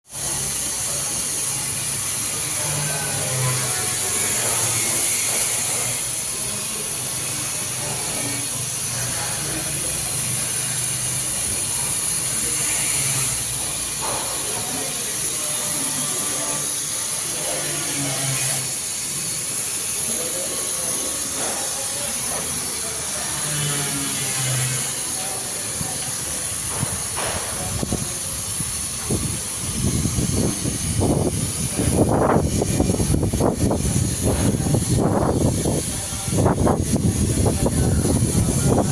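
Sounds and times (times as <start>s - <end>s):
gas torch flame hissing: 0.1s - 38.9s.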